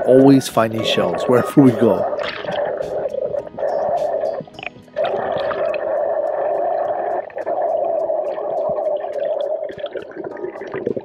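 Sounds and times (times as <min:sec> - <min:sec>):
muffled underwater rush: 0:00.0 - 0:11.0.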